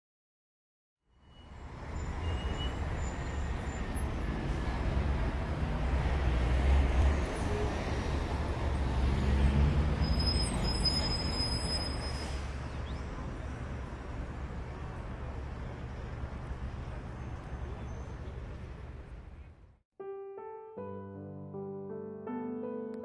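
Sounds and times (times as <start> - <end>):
road traffic rumble: 1.2 - 19.8.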